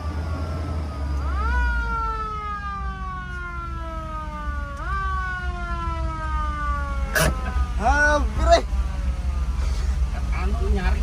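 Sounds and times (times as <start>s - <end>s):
emergency siren wailing: 0.0s - 11.0s
low engine rumble: 0.0s - 11.0s.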